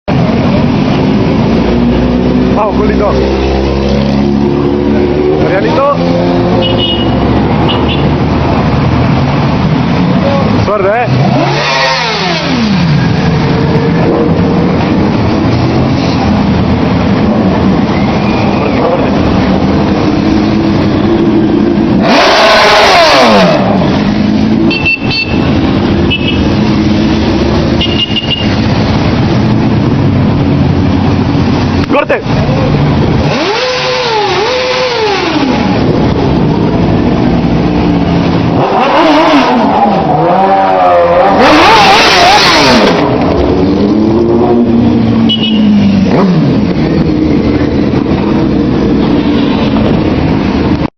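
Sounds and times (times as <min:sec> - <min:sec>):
motorcycle engines running: 0:00.1 - 0:50.9.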